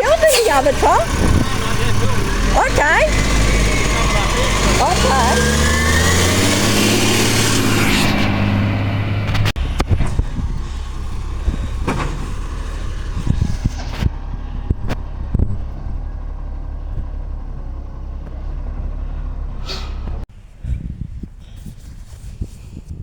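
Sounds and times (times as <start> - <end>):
garbage truck diesel engine running: 0.0 - 20.3.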